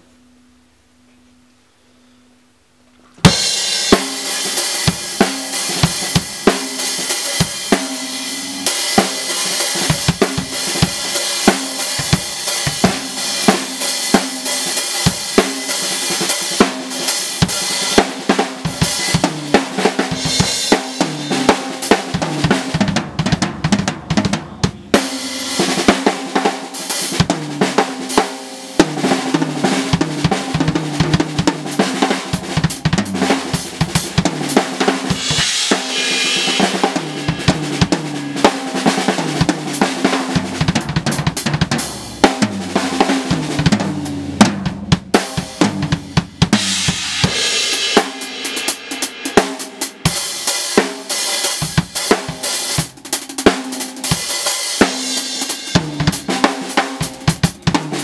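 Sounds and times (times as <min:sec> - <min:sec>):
acoustic drum kit solo: 0:03.2 - 0:58.0.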